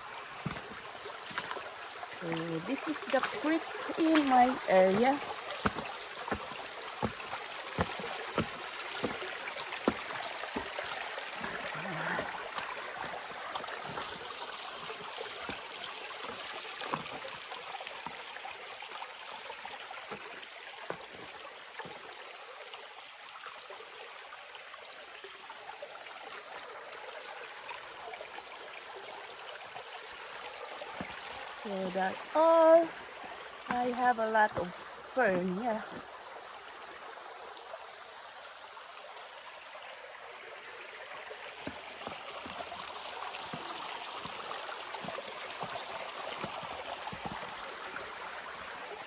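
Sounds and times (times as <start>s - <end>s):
creek trickling over rocks: 0.0s - 49.0s.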